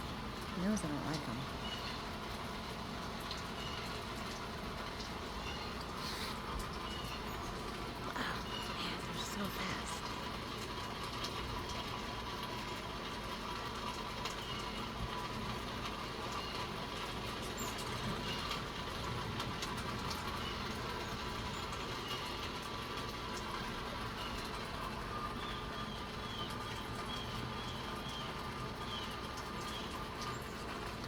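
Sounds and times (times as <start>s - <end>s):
faint drips: 0.0s - 31.0s
light rain hiss: 0.0s - 31.0s.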